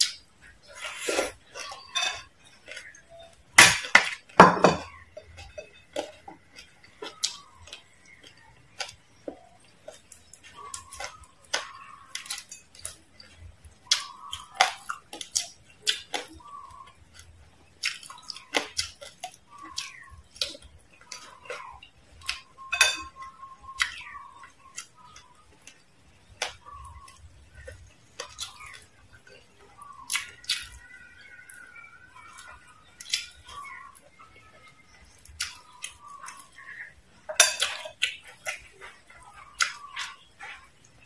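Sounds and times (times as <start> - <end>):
crunching and chewing fried food: 0.0 - 41.0
fried coating crackling: 0.0 - 41.0.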